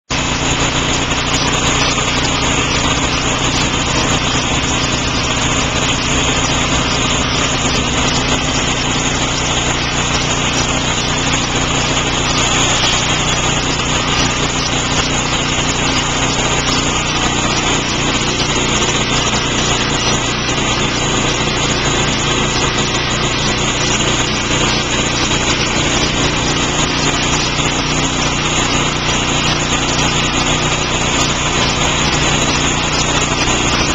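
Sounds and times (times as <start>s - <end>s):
machine drone: 0.1s - 33.9s.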